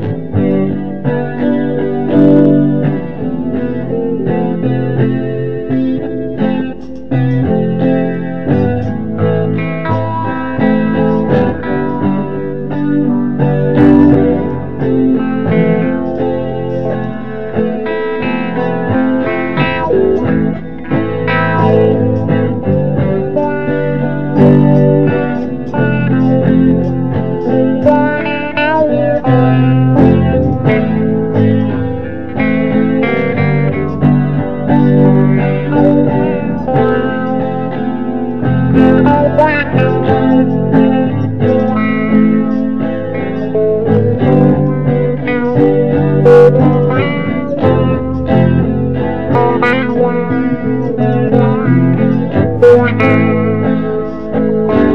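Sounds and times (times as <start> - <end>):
guitars plucking notes: 0.0 - 54.9.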